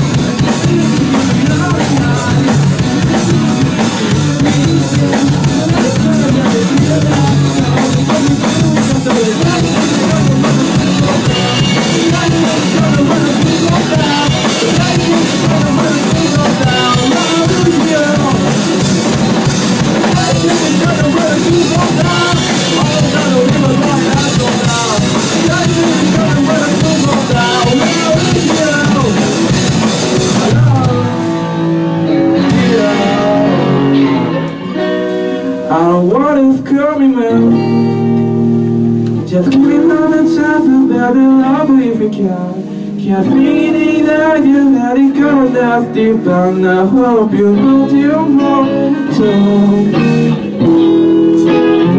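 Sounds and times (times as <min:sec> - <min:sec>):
guitar chords: 0:00.0 - 0:51.9
instrumental rock band playing: 0:00.0 - 0:51.9.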